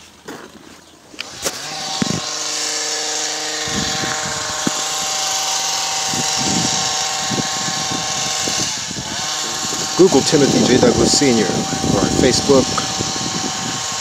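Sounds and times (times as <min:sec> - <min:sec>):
motor running with hiss and whine: 0:01.2 - 0:14.0.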